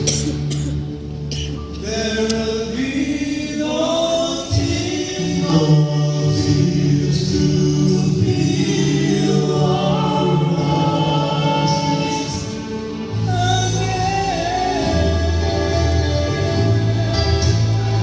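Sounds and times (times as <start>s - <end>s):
vocal quartet singing in harmony: 1.3s - 18.0s.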